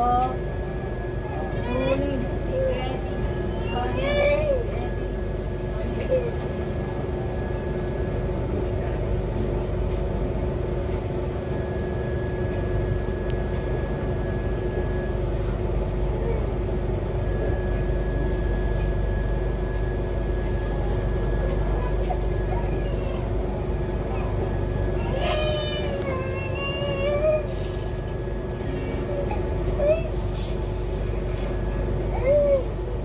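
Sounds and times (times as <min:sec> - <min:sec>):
constant high-pitched tone: 0:00.0 - 0:33.0.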